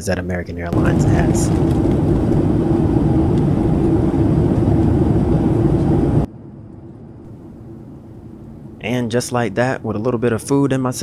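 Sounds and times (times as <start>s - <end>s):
quiet cabin hum: 0.0s - 6.3s, 7.2s - 11.0s
airplane cabin engine and air noise: 0.0s - 11.0s.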